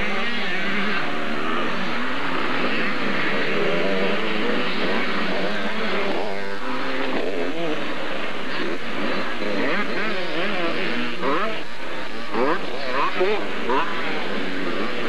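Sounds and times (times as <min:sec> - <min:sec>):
engine revving: 0:00.0 - 0:15.0
motocross bike engines racing: 0:00.0 - 0:15.0.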